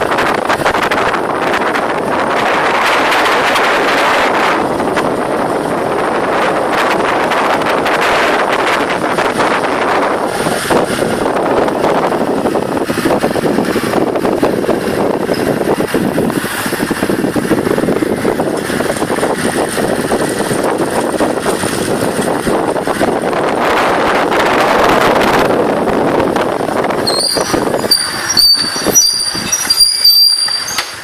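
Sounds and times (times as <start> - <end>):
motorbike running: 0.0 - 31.0
road noise: 0.0 - 31.0
wind rushing over microphone: 0.0 - 31.0.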